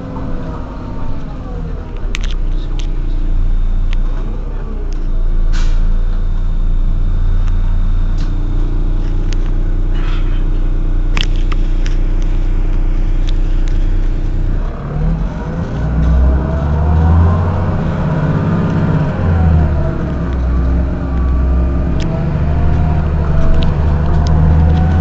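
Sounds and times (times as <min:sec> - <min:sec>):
bus diesel engine idling: 0:00.0 - 0:25.0.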